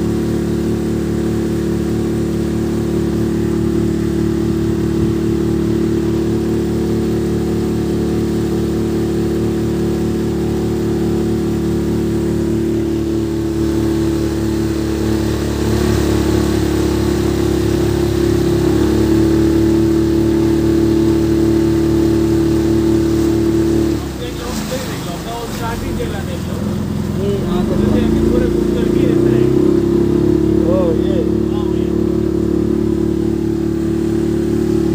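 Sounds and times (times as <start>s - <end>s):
motorboat engine running: 0.0s - 34.9s.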